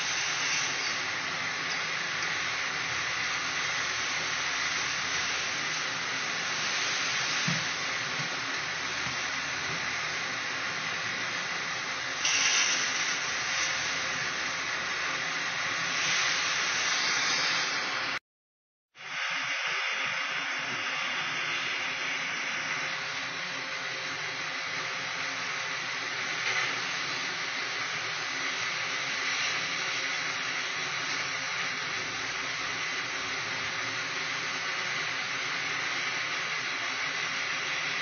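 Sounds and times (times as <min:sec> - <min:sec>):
loud steady hissing: 0:00.0 - 0:18.2, 0:19.0 - 0:38.0.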